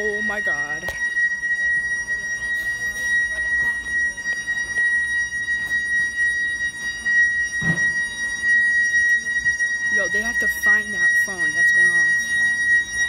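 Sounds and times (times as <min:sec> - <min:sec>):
high-pitched intercom tone: 0:00.0 - 0:06.1, 0:07.4 - 0:13.0.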